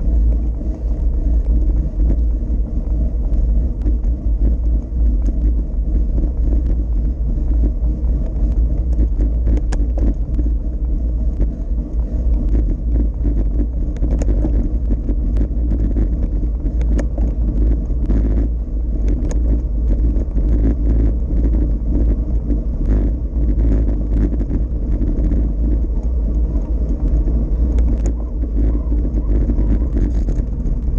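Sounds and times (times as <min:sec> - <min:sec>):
bicycle clicks and rattles: 0:00.0 - 0:30.9
tyre noise on asphalt: 0:00.0 - 0:30.9
wind buffeting microphone: 0:00.0 - 0:30.9.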